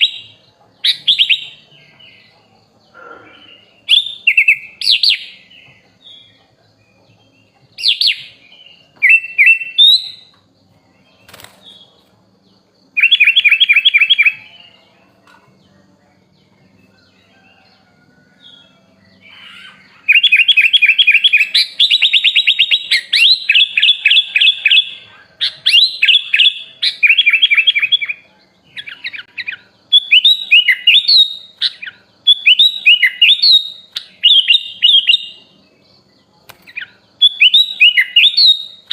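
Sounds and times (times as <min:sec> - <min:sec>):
bulbul singing trilled notes: 0:00.0 - 0:17.8, 0:18.4 - 0:38.9.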